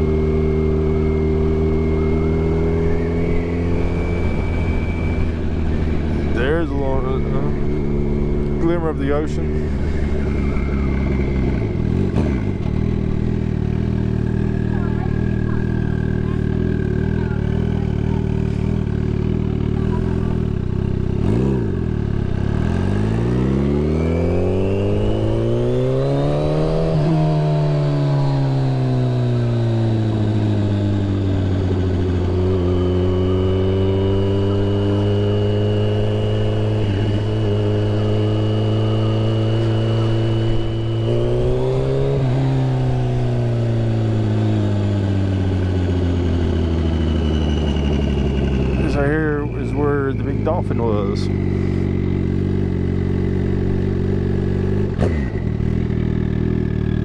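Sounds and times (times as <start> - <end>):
high turbo whine: 0.0 - 57.0
motorcycle engine revving: 0.0 - 57.0.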